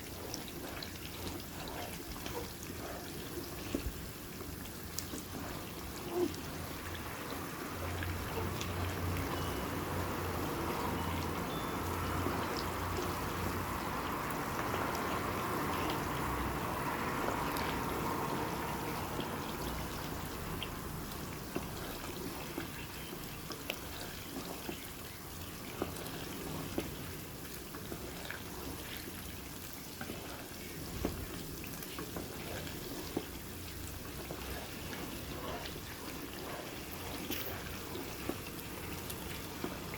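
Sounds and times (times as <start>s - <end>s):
hot oil sizzling and crackling: 0.0s - 39.9s.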